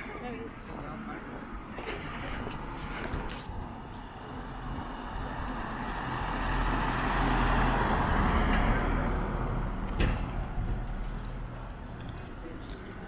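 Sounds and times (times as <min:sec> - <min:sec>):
vehicle engine and tyre noise: 0:01.2 - 0:13.0.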